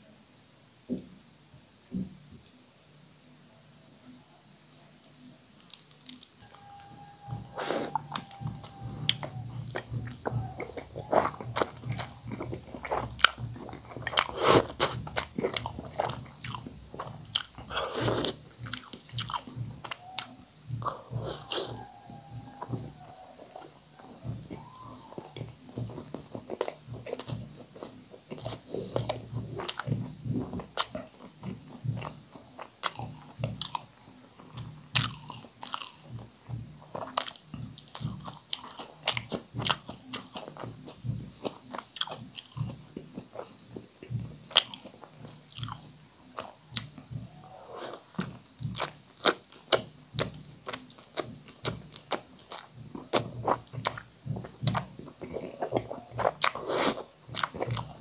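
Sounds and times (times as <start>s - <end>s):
wet chewing: 5.6s - 58.0s.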